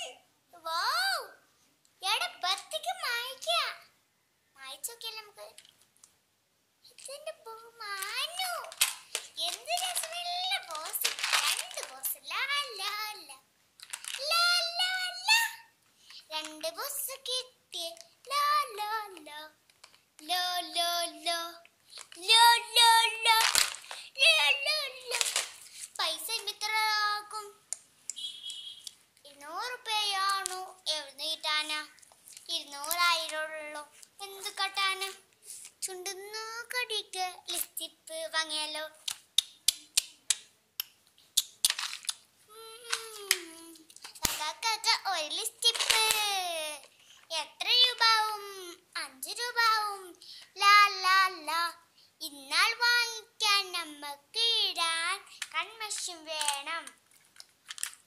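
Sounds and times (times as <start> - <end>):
young girl singing: 0.0 - 3.9, 4.6 - 5.6, 6.8 - 19.6, 20.2 - 27.7, 29.2 - 39.1, 42.5 - 57.0.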